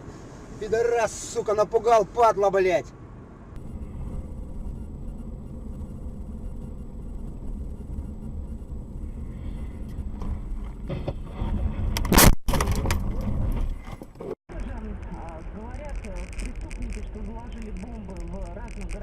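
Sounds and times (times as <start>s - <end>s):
low rumble of moving car: 0.0s - 19.0s.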